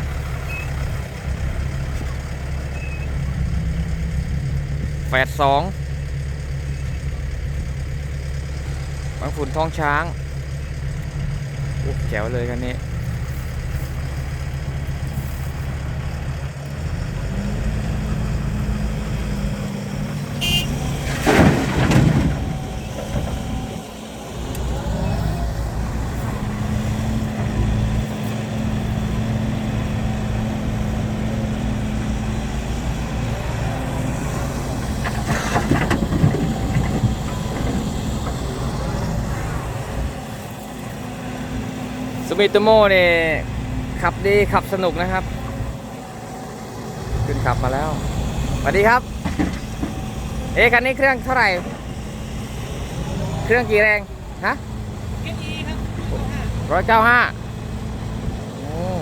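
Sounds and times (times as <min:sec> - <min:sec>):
heavy diesel engines running: 0:00.0 - 0:59.0
loud noisy engine surges: 0:00.0 - 0:59.0.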